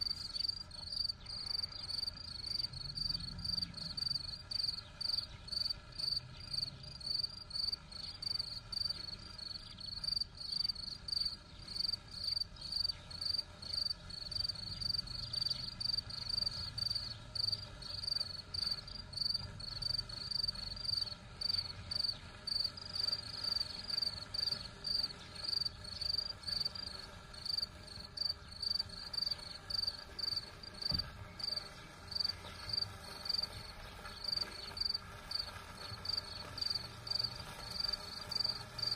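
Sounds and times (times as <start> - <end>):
cricket chirping: 0.0 - 24.2, 24.8 - 26.7, 27.4 - 33.4, 34.1 - 37.2.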